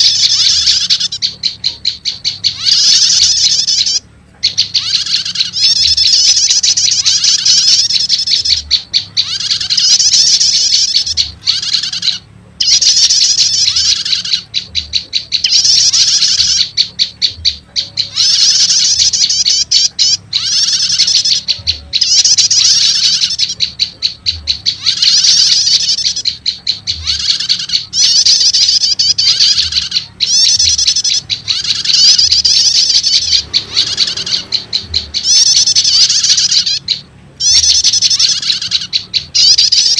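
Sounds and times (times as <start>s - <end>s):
songbird chattering trills: 0.0s - 39.9s.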